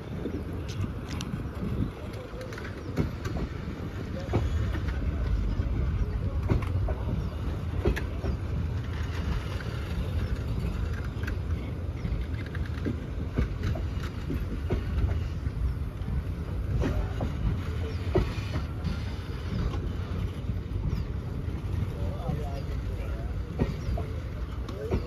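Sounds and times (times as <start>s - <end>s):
train rumbling past: 0.0s - 25.0s
wheels clicking over rail joints: 0.2s - 25.0s.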